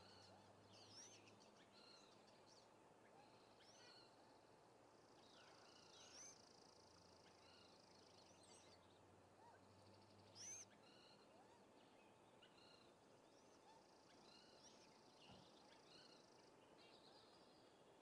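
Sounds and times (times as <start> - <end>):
faint high-pitched hiss: 0.0 - 18.0.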